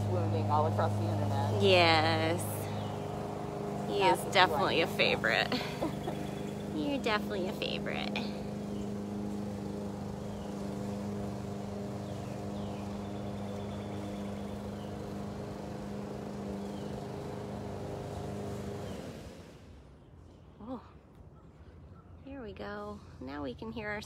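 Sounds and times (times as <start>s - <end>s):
lawn mower engines running: 0.0s - 20.5s.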